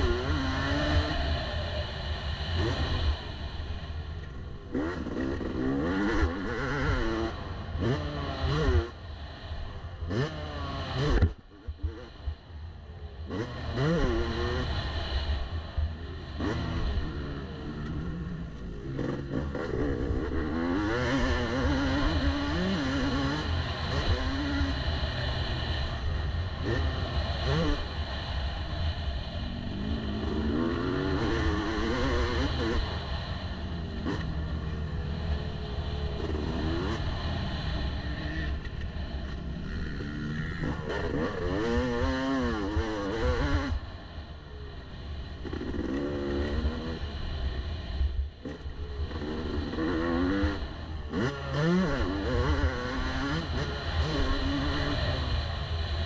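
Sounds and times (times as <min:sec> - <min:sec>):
motocross bike engine revving: 0:00.0 - 0:09.0, 0:10.0 - 0:12.1, 0:13.2 - 0:15.4, 0:16.0 - 0:28.4, 0:29.2 - 0:47.4, 0:48.4 - 0:55.6.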